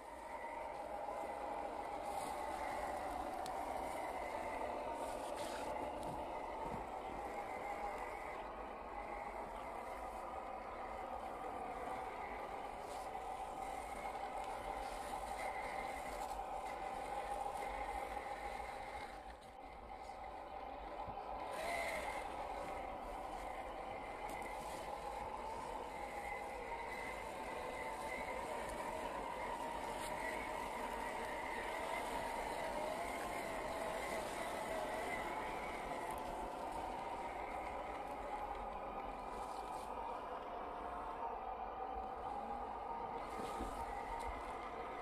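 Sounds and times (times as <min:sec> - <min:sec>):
electric motor and gears whining: 0:00.0 - 0:45.0.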